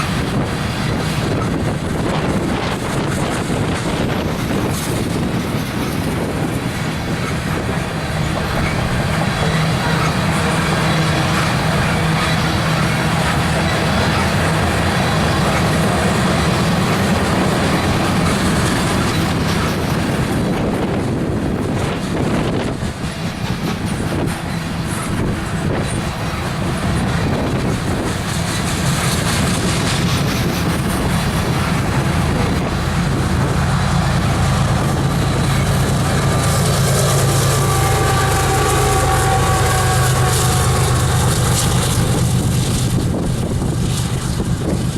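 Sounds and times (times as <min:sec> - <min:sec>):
freight train cars rumbling: 0:00.0 - 0:44.9
wheels clicking over rail joints: 0:00.0 - 0:44.9.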